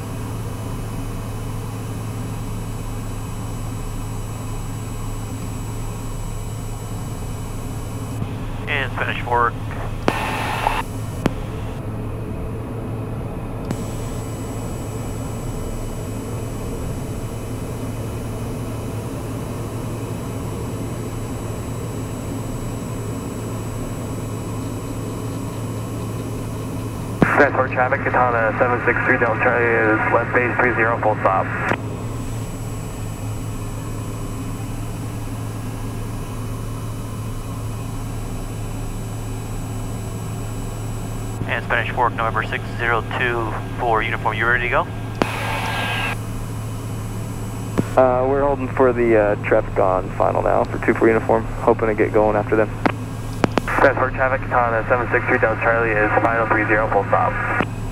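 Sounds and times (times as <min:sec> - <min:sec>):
high turbine whine: 0:00.0 - 0:57.9
turboprop engine drone: 0:00.0 - 0:57.9.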